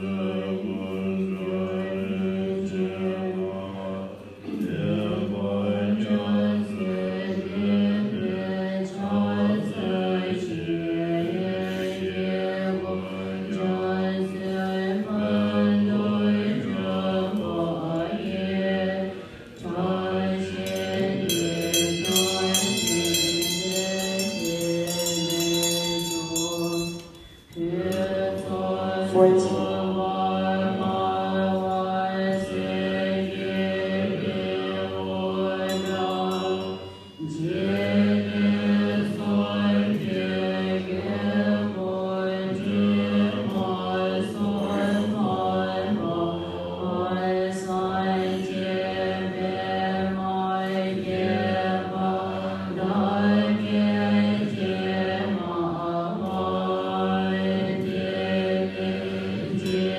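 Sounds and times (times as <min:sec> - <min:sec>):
voices chanting together: 0:00.0 - 0:59.9.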